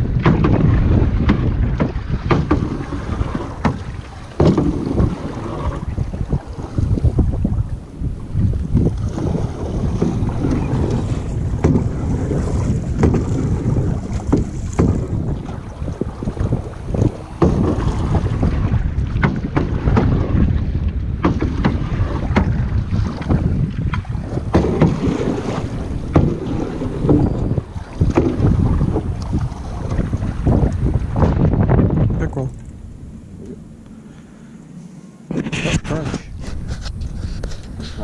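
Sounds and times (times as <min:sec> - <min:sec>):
oar knocking on metal rowboat: 0:00.0 - 0:07.6, 0:08.4 - 0:32.2
wind buffeting microphone: 0:00.0 - 0:34.2, 0:35.2 - 0:38.0
choppy water: 0:00.0 - 0:38.0.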